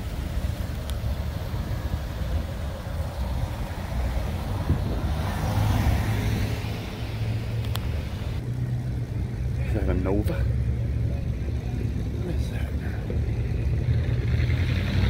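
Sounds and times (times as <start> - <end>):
car driving slowly past: 0.0 - 15.0
low engine rumble: 0.0 - 15.0.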